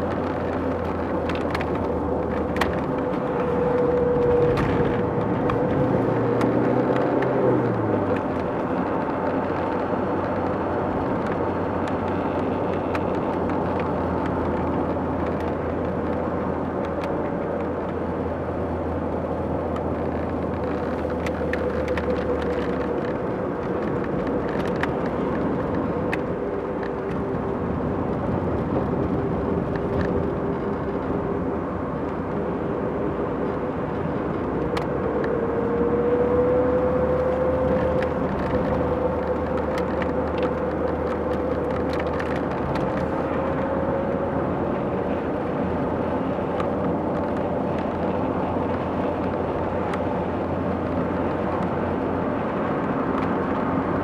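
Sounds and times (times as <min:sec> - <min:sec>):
car engine hum: 0:00.0 - 0:54.0
tyre and road rumble: 0:00.0 - 0:54.0.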